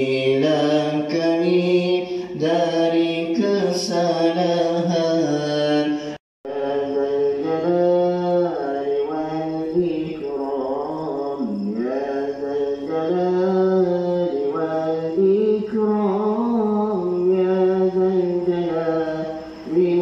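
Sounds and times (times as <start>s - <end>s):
man chanting: 0.0s - 20.0s.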